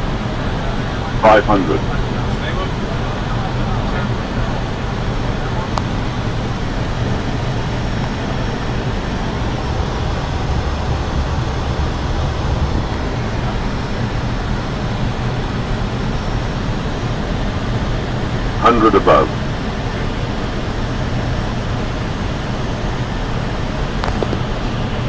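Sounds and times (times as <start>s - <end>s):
airflow and jet engine din: 0.0s - 25.0s.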